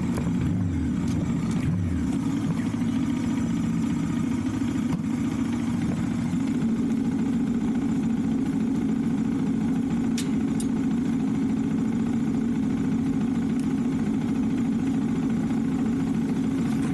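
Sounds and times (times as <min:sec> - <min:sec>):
motorcycle engine humming: 0:00.0 - 0:16.9.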